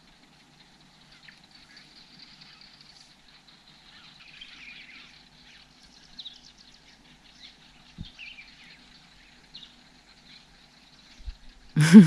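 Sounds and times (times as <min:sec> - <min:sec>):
birds chirping and trilling: 0:00.2 - 0:11.6.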